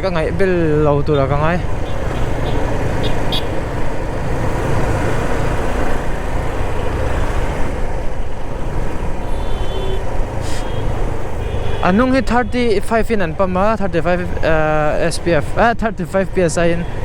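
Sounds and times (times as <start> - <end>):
motorcycle road noise: 0.0 - 17.0.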